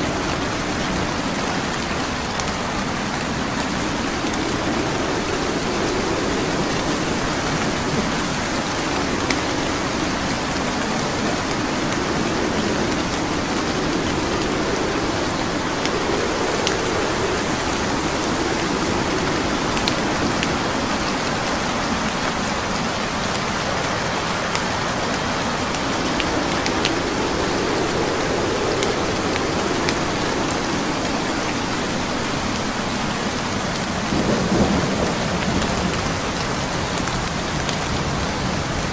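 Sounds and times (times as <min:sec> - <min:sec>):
wood fire crackling: 0:00.0 - 0:34.3
steady rain: 0:00.0 - 0:38.9.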